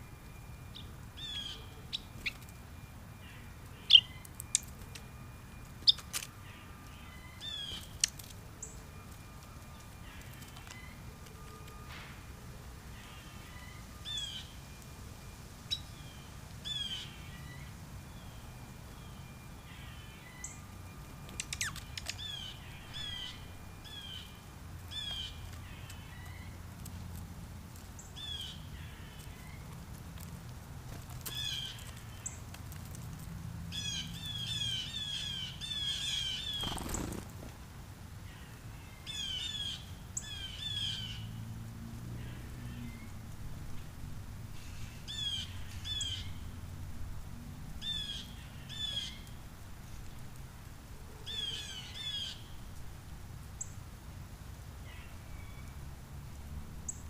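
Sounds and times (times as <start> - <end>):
low outdoor rumble: 0.0 - 57.0
songbirds chirping: 0.0 - 57.0.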